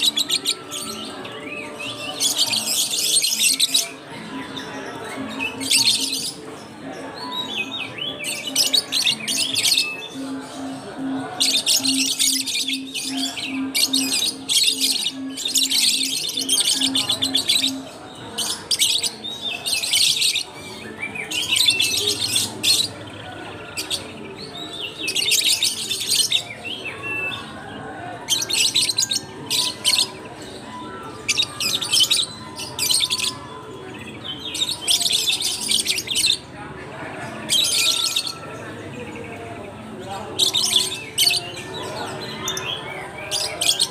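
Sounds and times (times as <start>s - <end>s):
lovebirds chirping and chattering: 0.0s - 43.9s.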